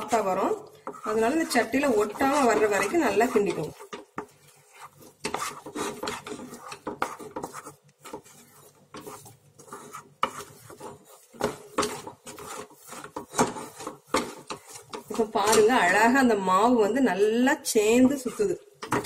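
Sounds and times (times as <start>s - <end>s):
spoon stirring dough in pan: 0.0s - 19.0s.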